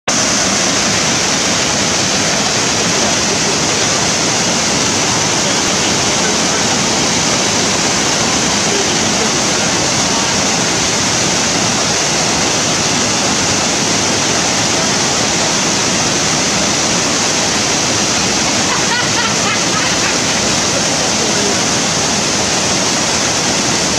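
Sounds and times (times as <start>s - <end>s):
waterfall rushing: 0.1s - 23.9s.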